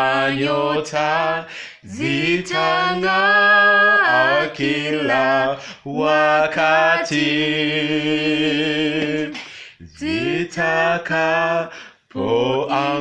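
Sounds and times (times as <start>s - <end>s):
man and woman singing: 0.0s - 13.0s.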